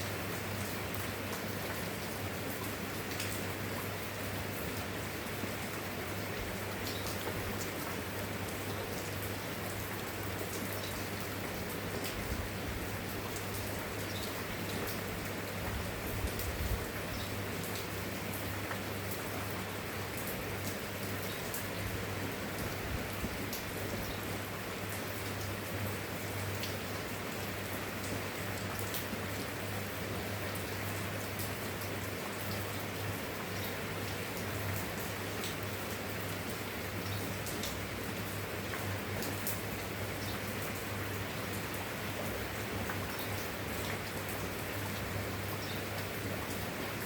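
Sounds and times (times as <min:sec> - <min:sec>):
rain drops on a surface: 0:00.0 - 0:47.0.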